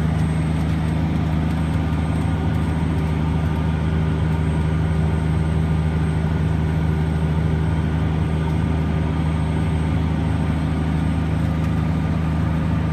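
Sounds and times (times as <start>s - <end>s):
diesel tractor engine drone: 0.0s - 12.9s.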